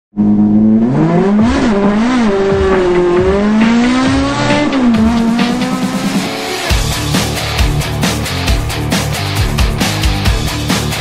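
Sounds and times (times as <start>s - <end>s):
car engine revving: 0.1s - 11.0s.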